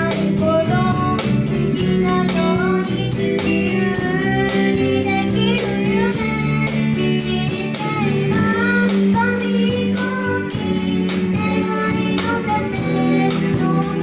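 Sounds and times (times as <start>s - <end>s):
child singing: 0.0s - 14.0s
live band playing pop song: 0.0s - 14.0s.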